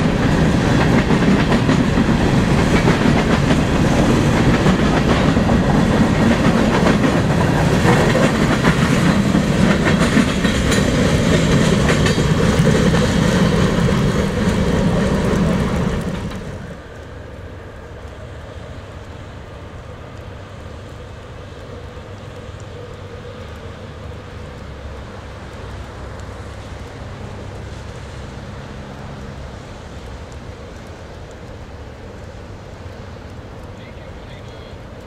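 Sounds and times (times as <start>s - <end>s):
freight train rumbling past: 0.0s - 35.0s
train wheels clicking: 0.0s - 35.0s.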